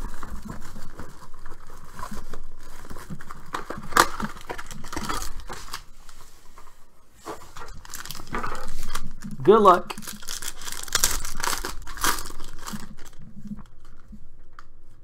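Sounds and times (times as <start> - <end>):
cardboard and foil crinkling and tearing: 0.0 - 14.7.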